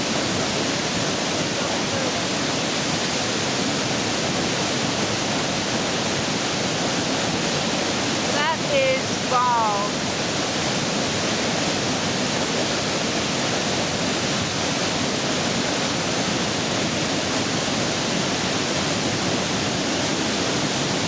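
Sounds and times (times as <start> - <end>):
waterfall crashing: 0.0 - 21.0.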